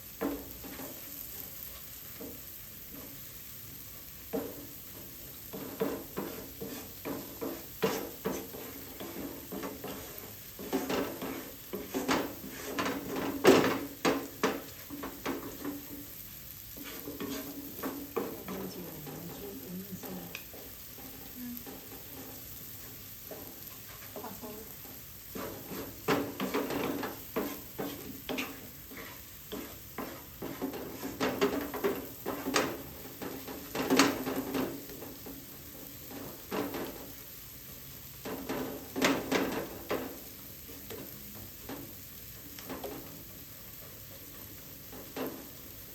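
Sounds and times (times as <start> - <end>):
utensil scraping a pan: 0.0 - 37.4, 38.0 - 45.9
food frying sizzle: 0.0 - 45.9.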